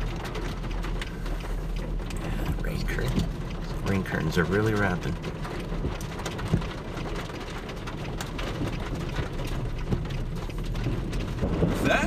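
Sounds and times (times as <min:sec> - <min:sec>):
rain on car roof: 0:00.0 - 0:12.0
steady low rumble: 0:00.0 - 0:12.0.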